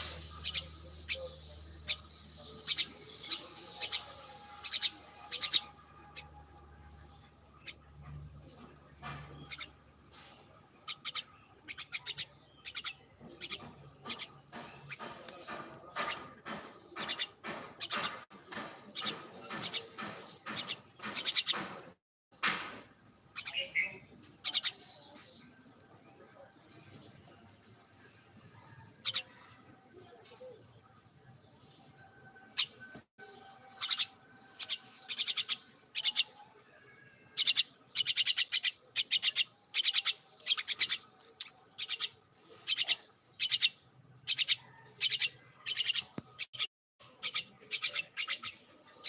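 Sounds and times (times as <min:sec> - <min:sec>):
small birds chirping: 0:00.0 - 0:22.0, 0:23.0 - 0:49.0.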